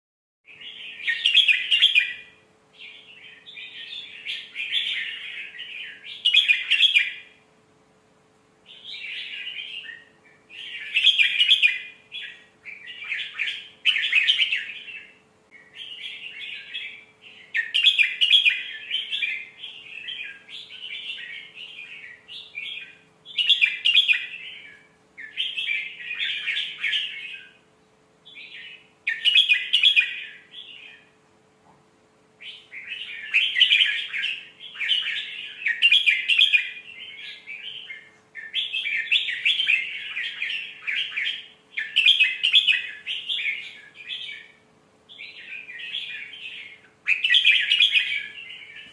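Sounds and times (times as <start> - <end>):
bird singing warbled phrases: 0.5 - 7.6, 8.6 - 31.3, 32.3 - 48.9
faint steady hum: 0.5 - 48.9.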